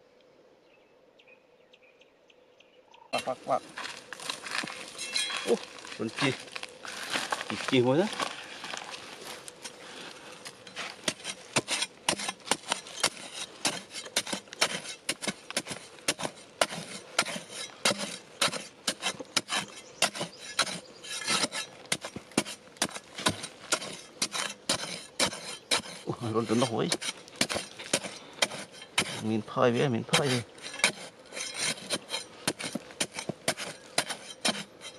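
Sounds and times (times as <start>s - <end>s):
metal tool digging sandy soil: 3.2s - 34.9s.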